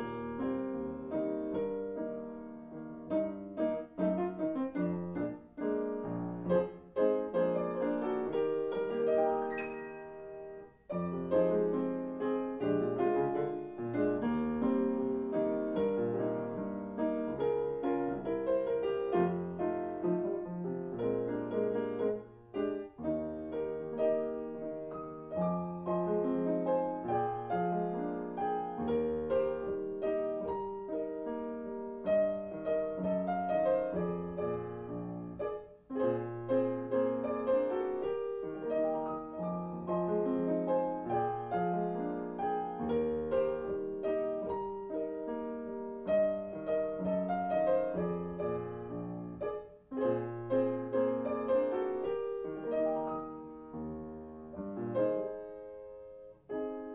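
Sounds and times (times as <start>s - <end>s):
piano music: 0.0s - 56.9s.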